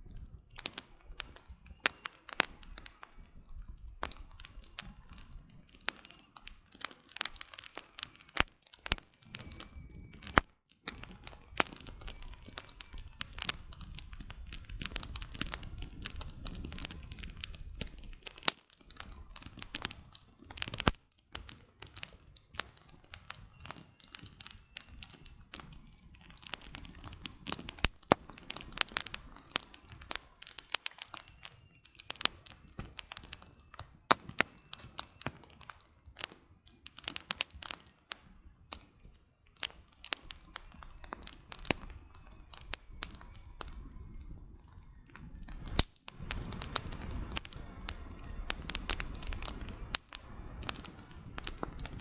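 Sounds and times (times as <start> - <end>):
low rush of flame: 0.0 - 52.0
wood fire crackling and popping: 0.0 - 52.0.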